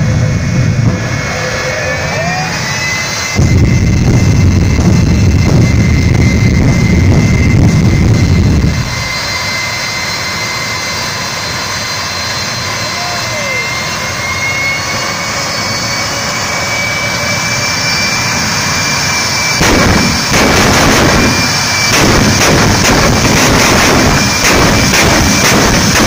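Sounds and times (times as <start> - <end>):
jet engine whine: 0.0 - 26.0.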